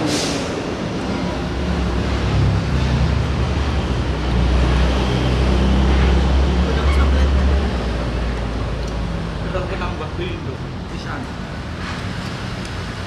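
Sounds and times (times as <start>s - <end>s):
traffic rumble and hiss: 0.0s - 13.0s.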